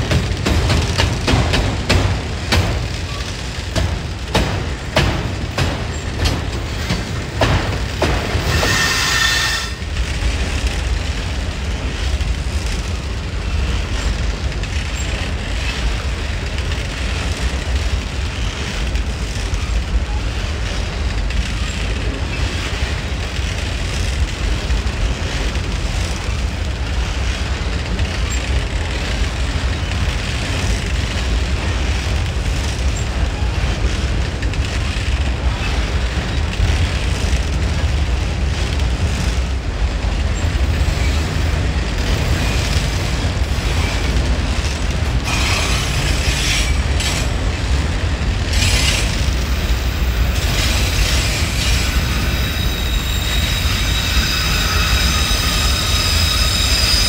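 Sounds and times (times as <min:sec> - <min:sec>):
train rumbling past: 0:00.0 - 0:57.0
wheel and rail hiss: 0:00.0 - 0:57.0.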